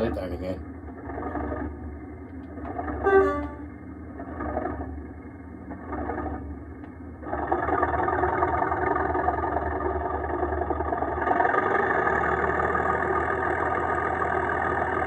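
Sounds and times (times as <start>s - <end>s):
model diesel engine sound from speaker: 0.0s - 15.0s.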